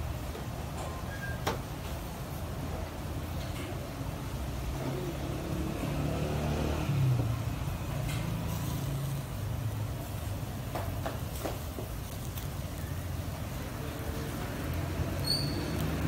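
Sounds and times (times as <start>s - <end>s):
street background noise: 0.0s - 16.0s.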